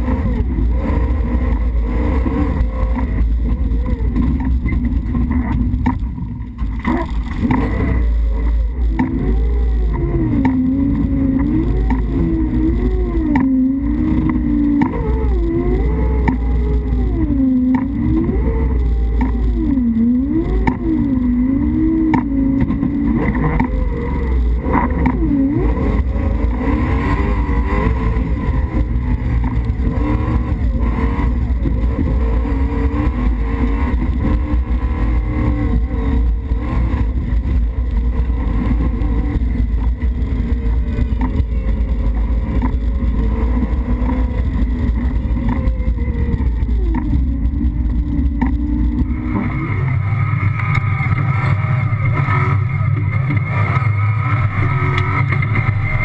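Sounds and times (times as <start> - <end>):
car rumble at speed: 0.0 - 56.0
rally car engine revving: 0.0 - 56.0.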